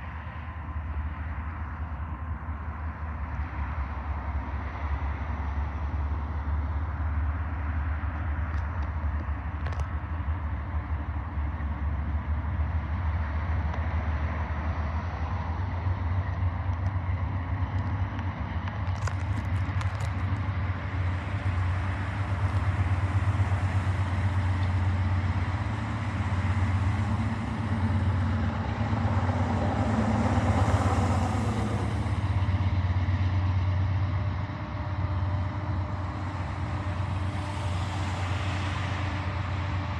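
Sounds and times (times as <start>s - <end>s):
engine low rumble: 0.0s - 39.9s.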